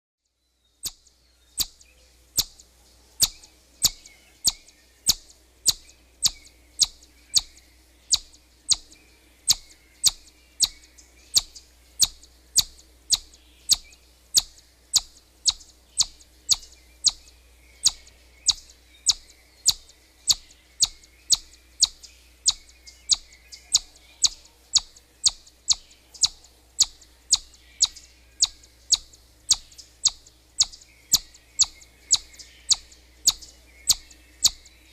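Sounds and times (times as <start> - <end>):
chipmunk alarm chirps: 0.8 - 34.9.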